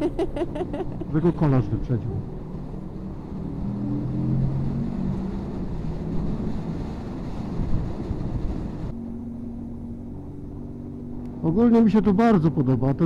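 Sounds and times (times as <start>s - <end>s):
wind rushing past microphone: 1.0s - 11.7s.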